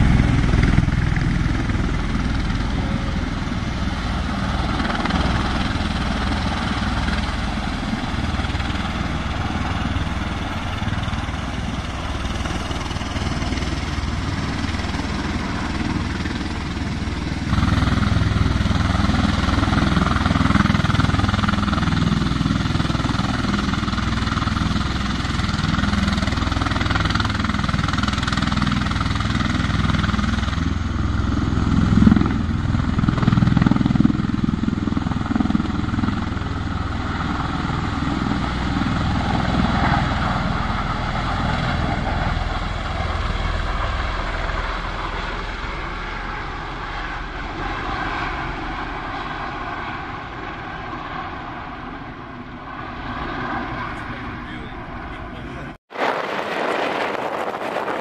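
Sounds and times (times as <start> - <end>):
tiltrotor aircraft rotors and engines: 0.0 - 58.0.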